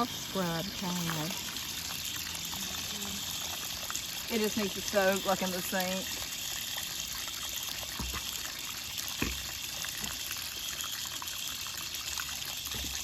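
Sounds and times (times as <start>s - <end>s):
running water pouring: 0.0s - 13.0s.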